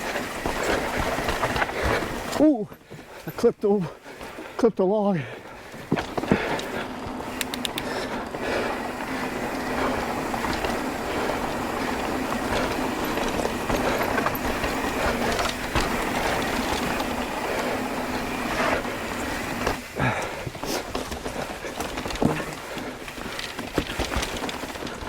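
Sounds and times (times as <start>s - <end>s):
bike chain and frame rattling: 0.0s - 4.5s, 5.2s - 25.0s.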